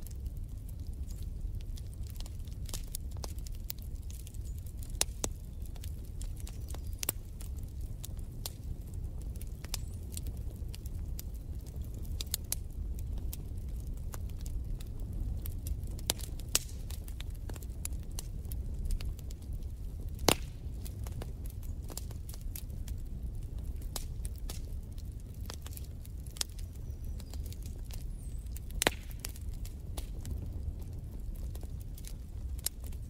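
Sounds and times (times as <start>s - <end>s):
log fire crackling and popping: 0.0s - 33.0s.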